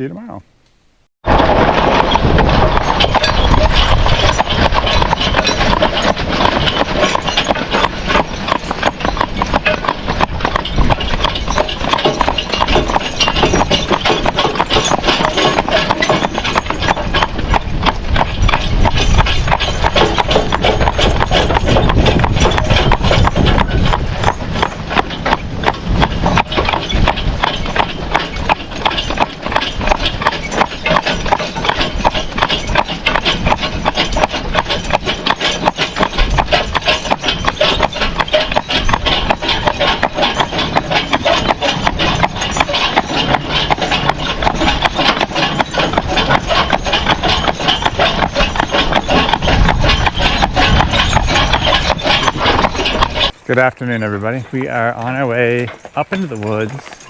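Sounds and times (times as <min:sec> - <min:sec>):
wagon rattling and knocking: 0:01.2 - 0:57.0
horse hooves clopping: 0:01.3 - 0:57.0.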